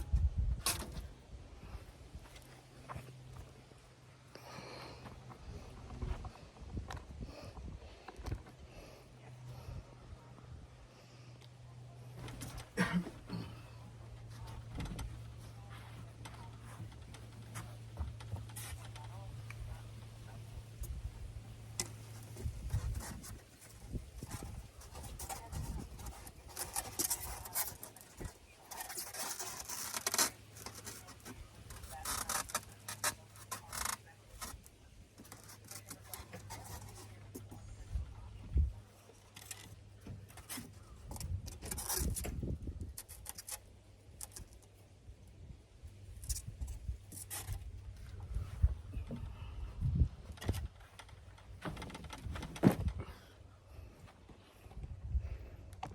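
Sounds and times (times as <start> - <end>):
rustling and scraping of materials: 0.0 - 55.9
steady low hum: 0.0 - 55.9.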